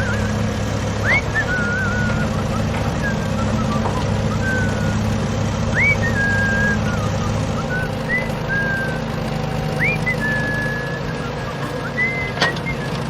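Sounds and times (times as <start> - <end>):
high whistled notes: 0.0 - 13.0
vehicle engine humming: 0.0 - 13.0.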